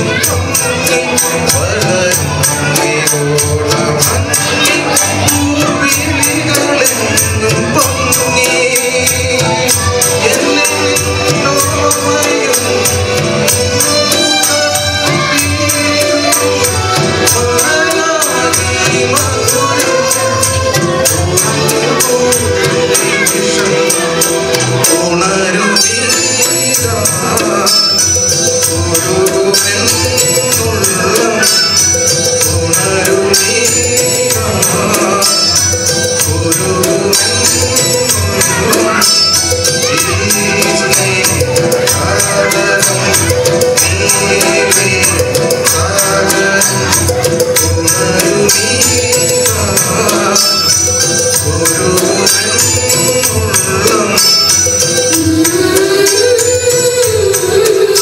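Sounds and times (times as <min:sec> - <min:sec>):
music with fast percussion beat: 0:00.0 - 0:58.0.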